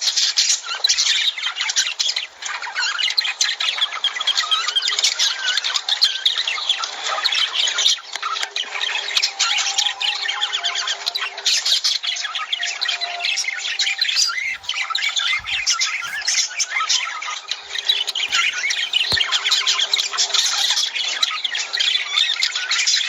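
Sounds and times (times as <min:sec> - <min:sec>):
lovebirds chattering and squawking: 0:00.1 - 0:23.0.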